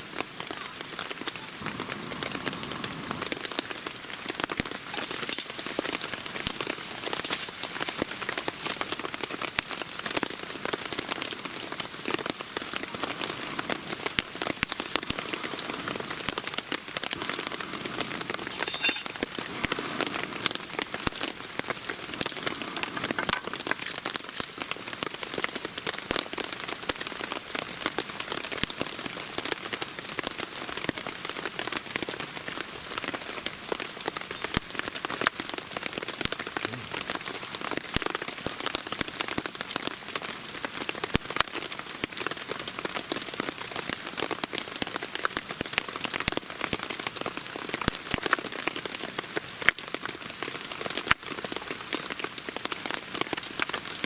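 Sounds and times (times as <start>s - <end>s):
raindrops ticking on a surface: 0.0s - 54.0s
steady rain falling: 0.0s - 54.0s.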